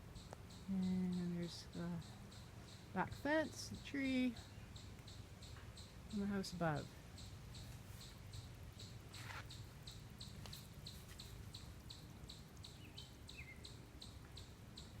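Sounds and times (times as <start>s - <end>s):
faint high chirping: 0.0s - 15.0s.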